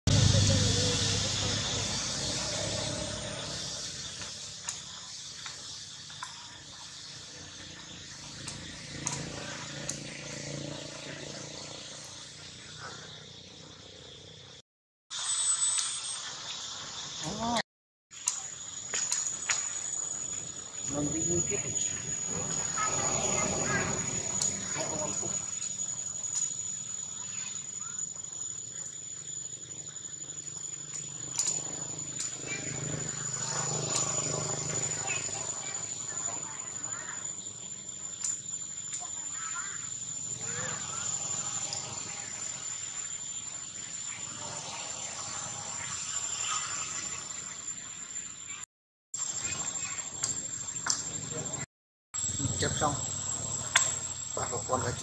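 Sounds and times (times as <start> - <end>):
insects droning: 0.1 - 14.6, 15.8 - 48.6, 49.2 - 55.0.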